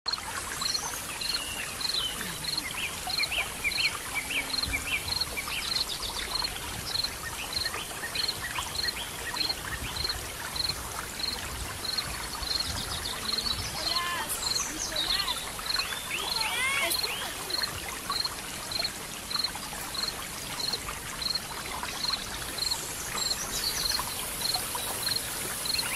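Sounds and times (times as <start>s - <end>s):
birds chirping: 0.1s - 25.9s
waterfall rushing: 0.1s - 25.9s.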